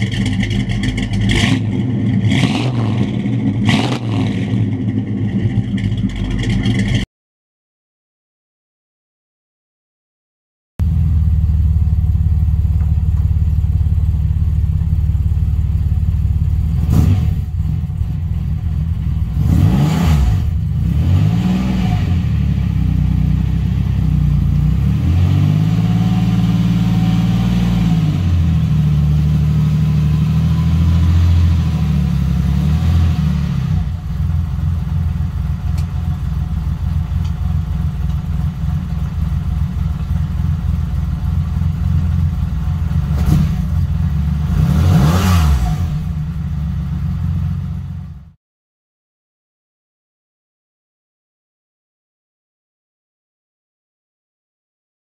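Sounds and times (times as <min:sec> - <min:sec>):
car engine revving and idling: 0:00.0 - 0:07.1, 0:10.8 - 0:48.4.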